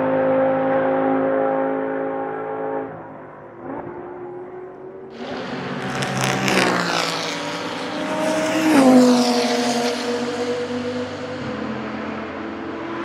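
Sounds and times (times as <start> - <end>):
racing car engine: 0.0 - 13.0.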